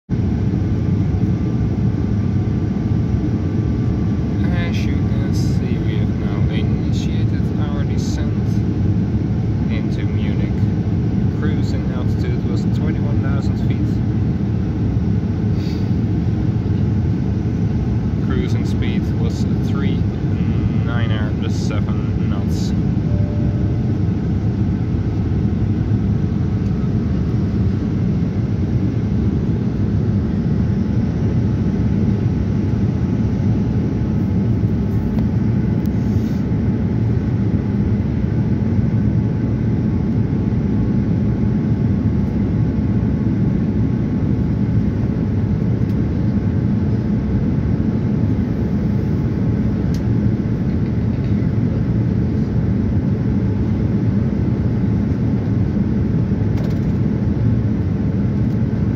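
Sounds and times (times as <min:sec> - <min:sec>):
engine and airflow rumble: 0:00.1 - 0:58.9.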